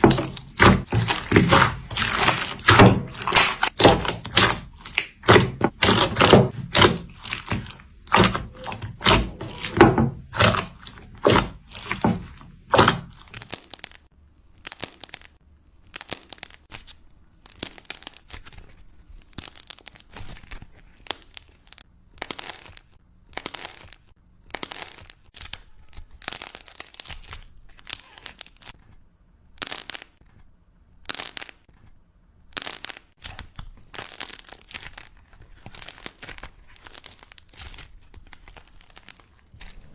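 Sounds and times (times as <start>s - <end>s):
slime crunching and crackling: 0.0s - 30.4s, 31.0s - 31.8s, 32.4s - 39.9s.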